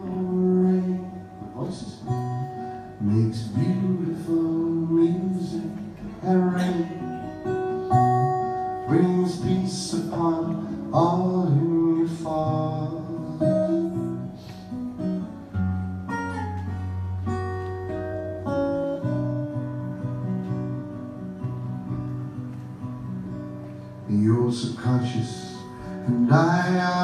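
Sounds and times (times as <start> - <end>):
live band with acoustic guitar: 0.0 - 27.0.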